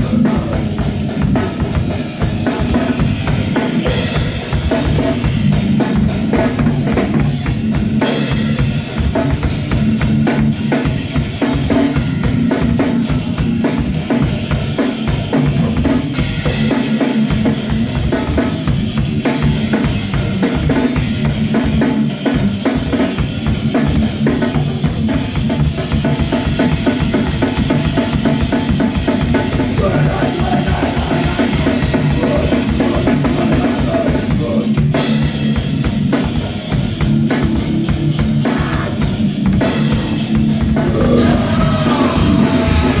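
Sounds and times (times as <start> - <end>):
bass drum and snare: 0.0 - 34.1, 34.8 - 43.0
live rock band playing: 0.0 - 43.0.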